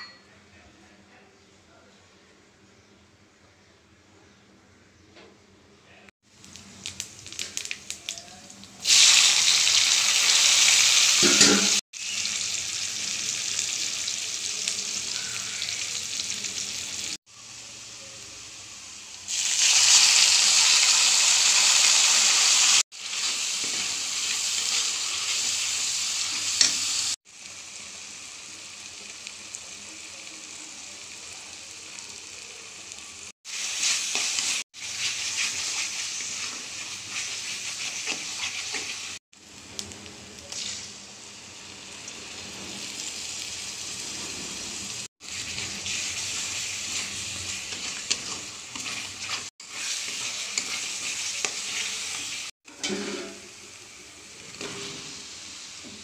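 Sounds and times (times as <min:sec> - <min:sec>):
oil sizzling in a pan: 0:06.2 - 0:56.0.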